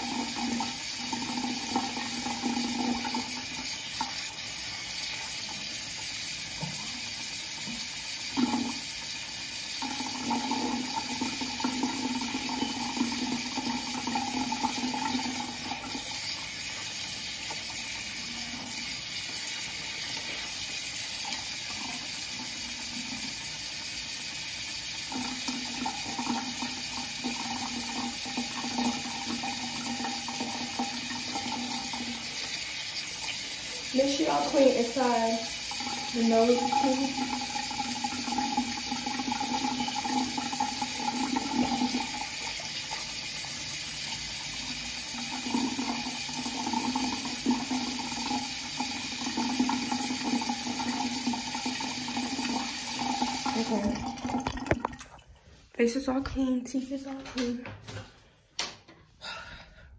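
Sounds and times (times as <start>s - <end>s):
tap water running into sink: 0.0s - 55.3s.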